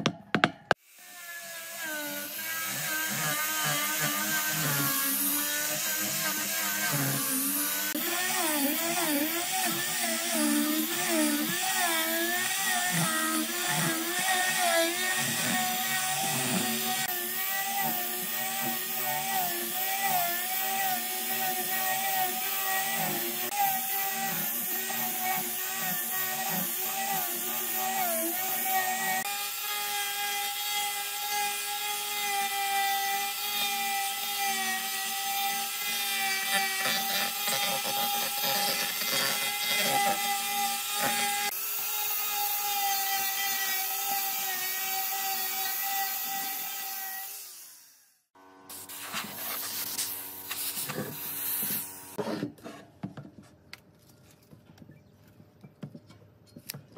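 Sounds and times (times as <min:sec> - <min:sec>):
sanding disc rasping on wood: 0:01.2 - 0:46.9.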